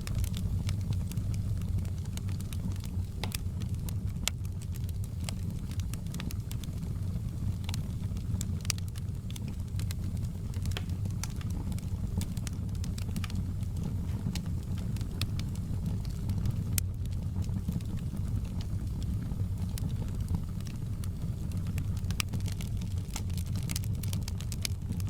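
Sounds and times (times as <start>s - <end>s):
fire popping and snapping: 0.0s - 25.0s
low rumble of flames: 0.0s - 25.0s
wood fire crackling: 0.0s - 25.0s.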